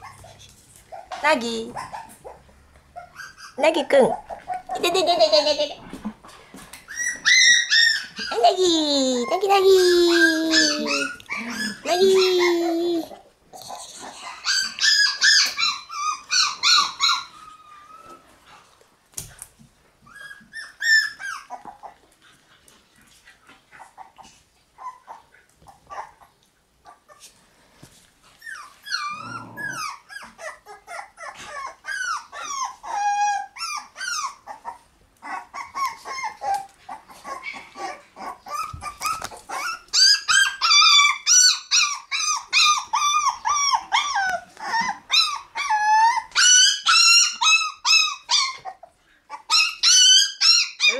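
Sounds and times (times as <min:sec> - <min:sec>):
puppies whining and yelping: 0:00.0 - 0:27.5, 0:28.2 - 0:50.9.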